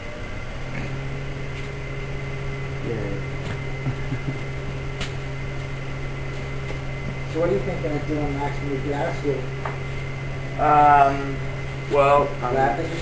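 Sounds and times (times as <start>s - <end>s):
centrifuge motor hum: 0.0s - 13.0s.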